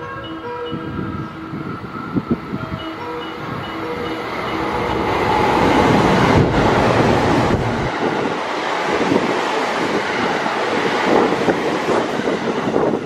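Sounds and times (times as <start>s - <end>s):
electric train passing: 0.0s - 13.0s
wind buffeting microphone: 0.0s - 13.0s.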